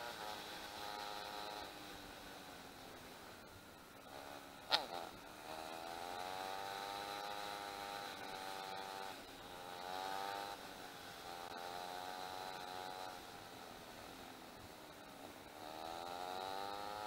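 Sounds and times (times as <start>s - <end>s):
dirt-bike engine revving: 0.0s - 2.1s, 4.0s - 13.9s, 15.0s - 17.0s
faint high whine: 0.0s - 17.0s.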